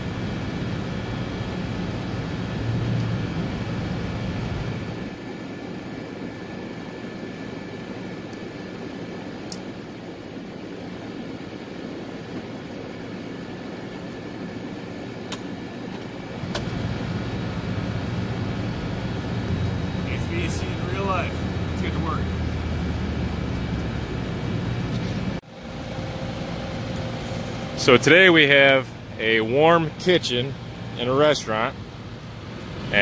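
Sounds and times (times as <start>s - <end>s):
hvac machinery humming: 0.0s - 33.0s.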